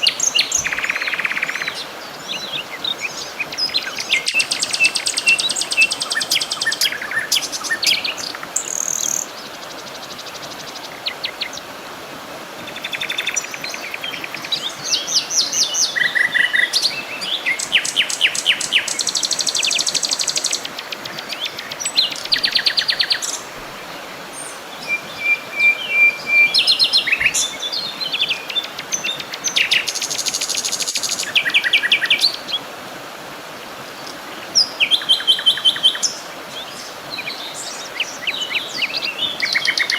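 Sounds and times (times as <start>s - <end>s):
songbirds trilling and chirping: 0.0s - 32.7s, 33.8s - 39.9s
steady background hiss: 0.0s - 39.9s.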